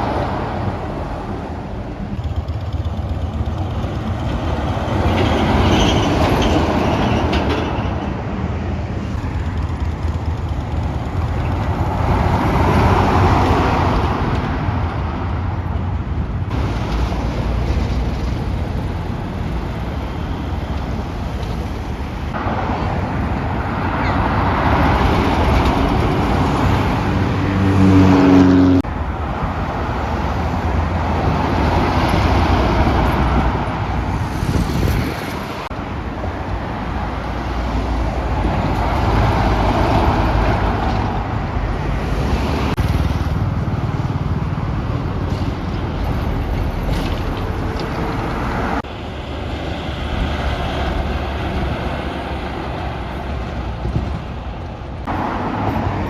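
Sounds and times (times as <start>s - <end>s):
heavy trucks driving: 0.0s - 56.0s
traffic noise: 0.0s - 56.0s.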